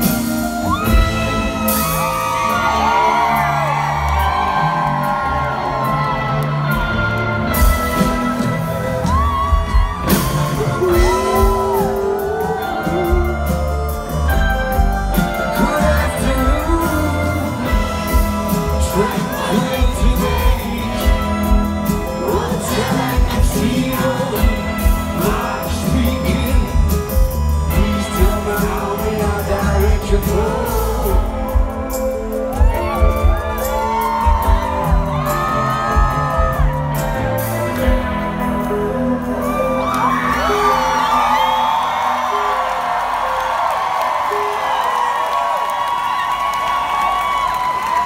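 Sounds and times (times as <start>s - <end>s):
lead singer: 0.0s - 48.0s
rock band playing live: 0.0s - 48.0s.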